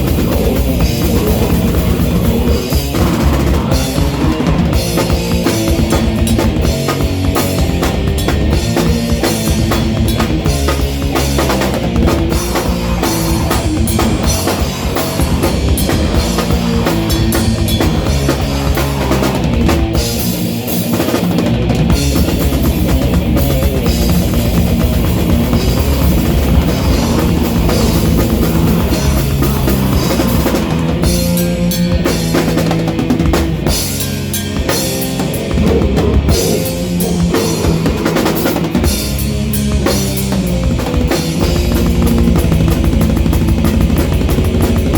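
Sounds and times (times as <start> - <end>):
bass drum: 0.0 - 44.9
live rock band: 0.0 - 44.9.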